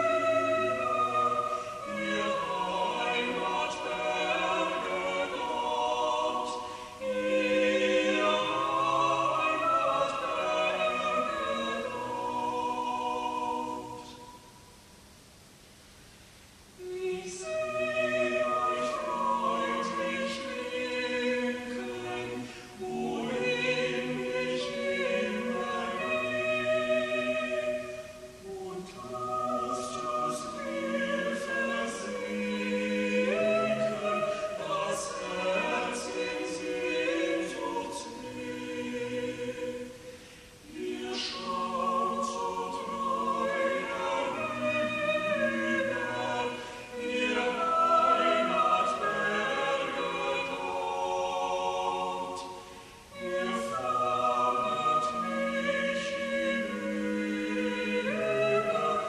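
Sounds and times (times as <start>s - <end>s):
choir singing in harmony: 0.0s - 15.1s, 16.6s - 59.0s.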